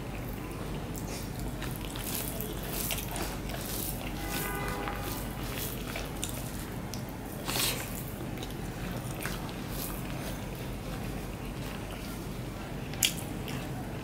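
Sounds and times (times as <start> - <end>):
fingers squishing rice and curry: 0.9 - 14.0.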